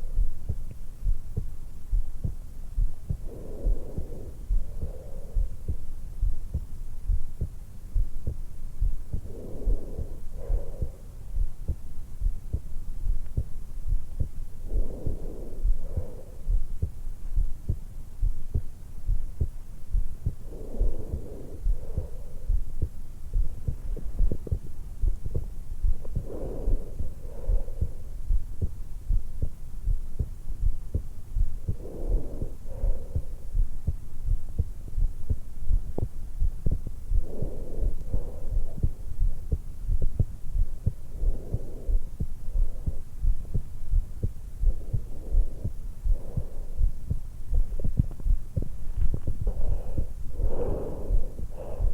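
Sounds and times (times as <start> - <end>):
heartbeat thuds: 0.0 - 51.9
person breathing: 2.2 - 6.6, 8.2 - 29.2, 29.8 - 51.9.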